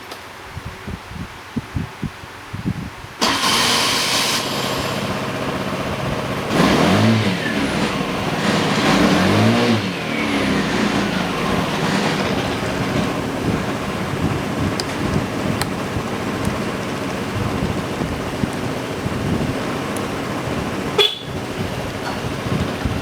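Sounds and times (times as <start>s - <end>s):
scooter engine starting and idling: 3.2s - 23.0s.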